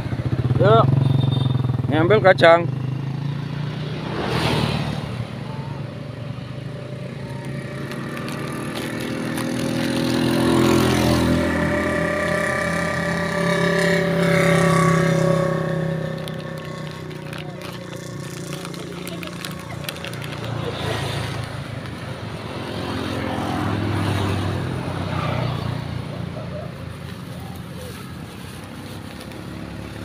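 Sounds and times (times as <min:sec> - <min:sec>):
vehicle engine passing: 0:01.8 - 0:30.0.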